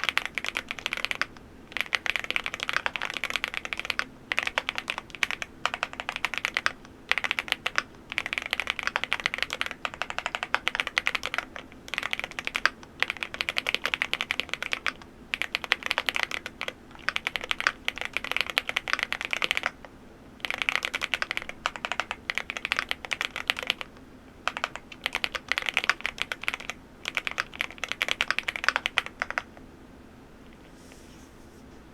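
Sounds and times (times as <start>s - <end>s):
mechanical keyboard typing: 0.0s - 19.8s, 20.4s - 29.6s.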